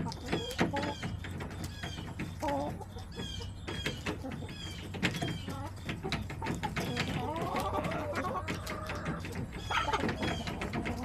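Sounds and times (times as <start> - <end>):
hens clucking and calling: 0.0 - 11.0.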